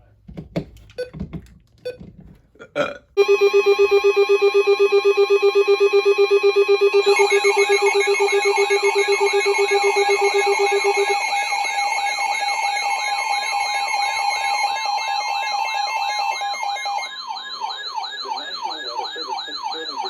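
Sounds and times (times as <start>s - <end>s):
pulsing alarm beep: 3.2s - 20.0s
warbling alarm tone: 3.2s - 20.0s.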